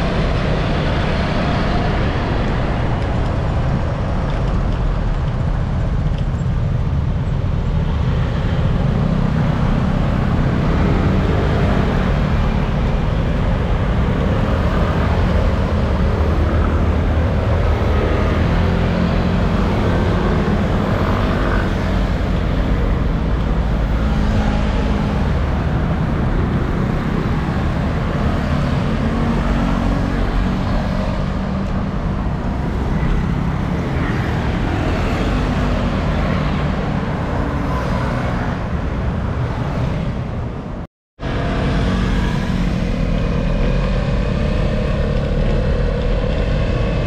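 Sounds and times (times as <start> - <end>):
road and traffic noise: 0.0 - 47.0
wind rumble on microphone: 0.0 - 47.0.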